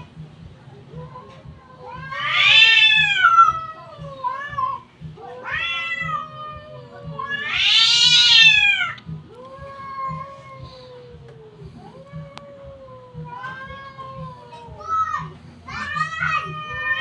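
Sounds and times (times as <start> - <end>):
cats yowling: 1.0 - 17.0.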